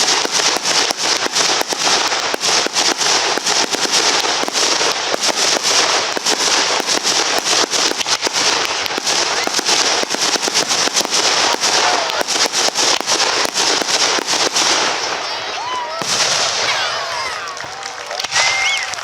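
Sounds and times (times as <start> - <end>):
fireworks bangs and pops: 0.0 - 19.0
fireworks crackling: 0.0 - 19.0.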